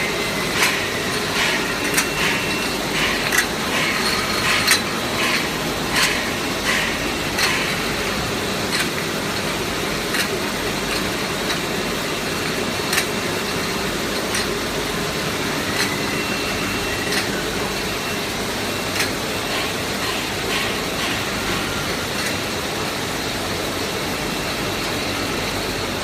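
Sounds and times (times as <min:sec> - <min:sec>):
bottle filling machine running: 0:00.0 - 0:26.0
sharp clicks and knocks: 0:00.1 - 0:22.5.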